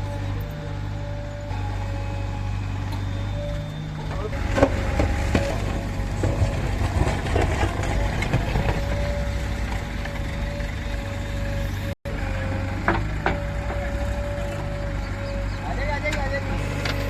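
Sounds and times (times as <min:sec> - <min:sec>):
backhoe diesel engine running: 0:00.0 - 0:17.0
constant whine: 0:00.0 - 0:17.0.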